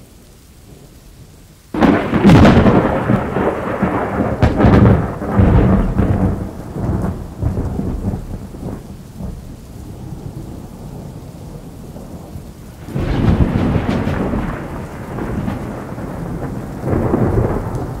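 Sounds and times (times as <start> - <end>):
steady rain: 0.0 - 18.0
rolling thunder: 1.7 - 18.0.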